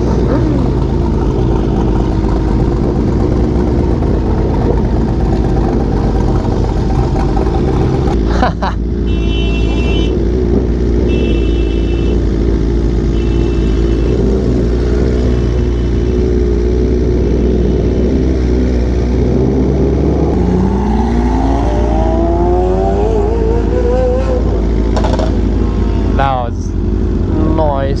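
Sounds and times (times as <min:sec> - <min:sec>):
vehicle engine accelerating: 0:00.0 - 0:08.8, 0:12.2 - 0:28.0.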